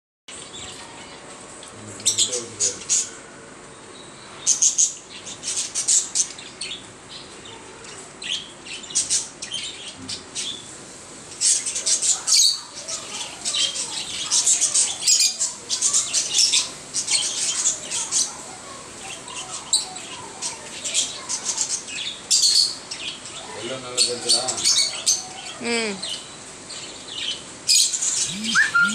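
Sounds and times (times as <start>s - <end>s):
lovebirds chirping and squawking: 1.9s - 28.9s.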